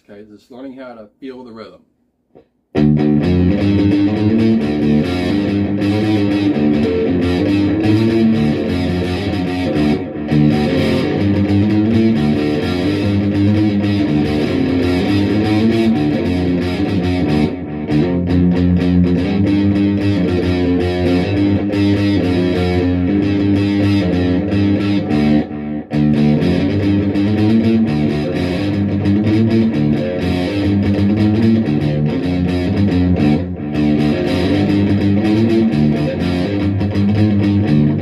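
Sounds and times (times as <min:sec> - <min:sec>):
distorted electric guitar riff: 0:02.8 - 0:38.0.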